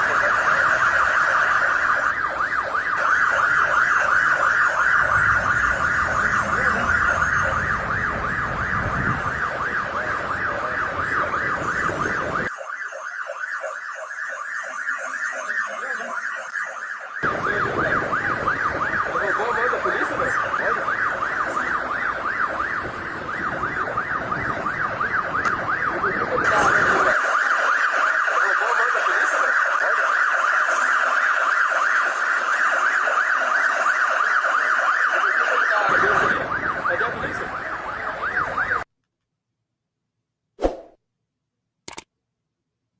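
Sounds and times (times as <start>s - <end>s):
motorcycle alarm wailing: 0.0s - 38.8s.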